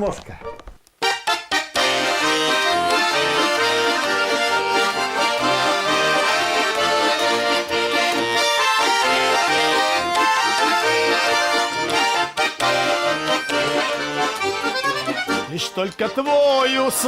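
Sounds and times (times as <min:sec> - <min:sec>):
accordion playing: 0:01.0 - 0:17.0.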